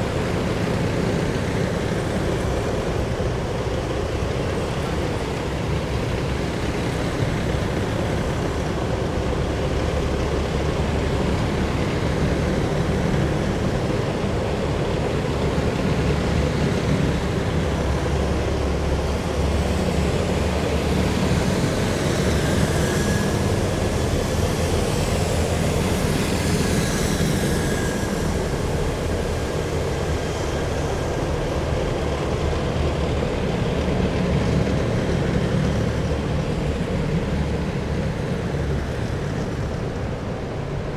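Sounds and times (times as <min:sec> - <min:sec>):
military vehicles diesel rumble: 0:00.0 - 0:40.8.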